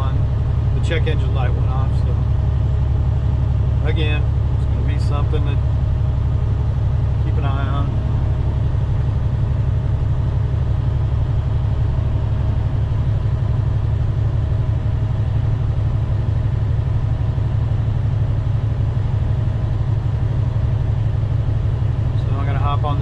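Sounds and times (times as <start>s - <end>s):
diesel truck engine rumble: 0.0s - 23.0s.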